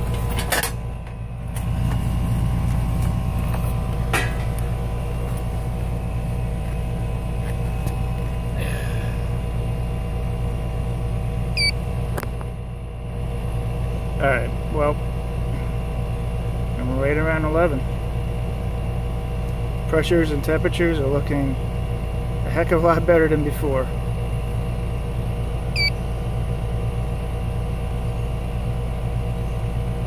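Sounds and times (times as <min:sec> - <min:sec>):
air conditioner unit humming: 0:00.0 - 0:30.0.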